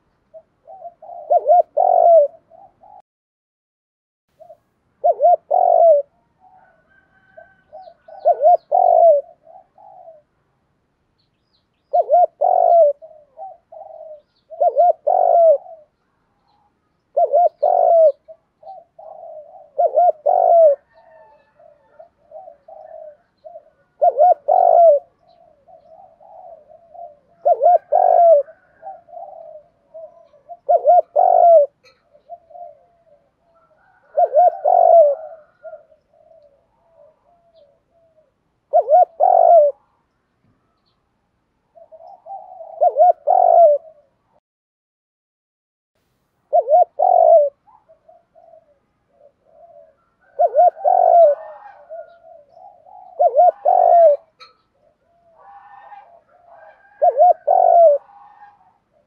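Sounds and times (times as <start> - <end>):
dove cooing: 0.0 - 3.0, 4.4 - 10.4, 11.8 - 40.0, 41.7 - 44.4, 46.5 - 59.0.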